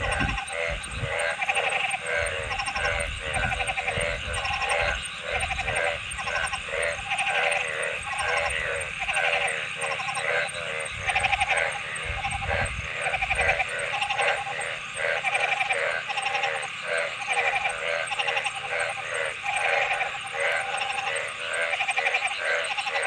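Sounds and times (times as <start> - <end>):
frogs croaking: 0.0 - 23.0.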